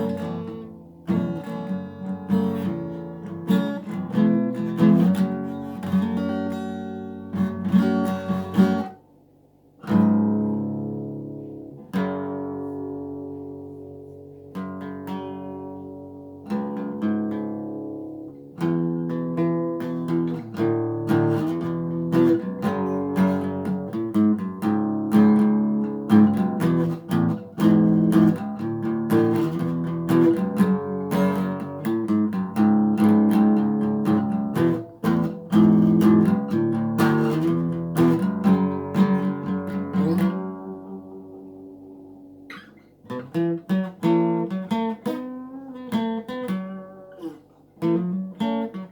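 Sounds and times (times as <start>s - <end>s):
acoustic guitar strumming chords: 0.0s - 48.9s.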